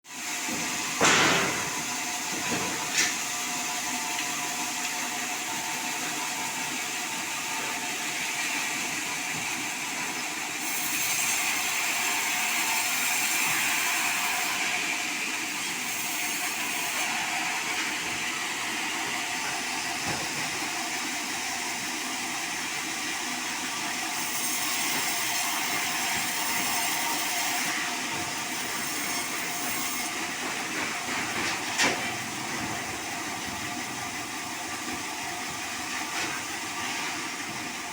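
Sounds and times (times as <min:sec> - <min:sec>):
band saw cutting log: 0:00.1 - 0:37.9.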